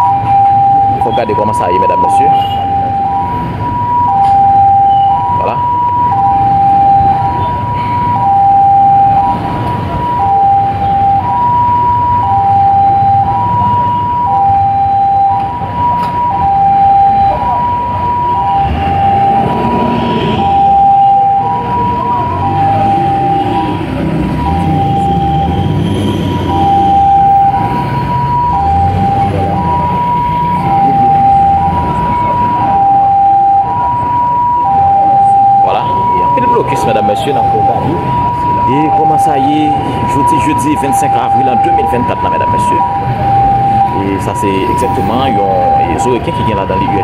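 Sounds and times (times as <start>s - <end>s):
low rumble of vehicles: 0.0s - 47.0s
two-tone vehicle siren: 0.0s - 47.0s.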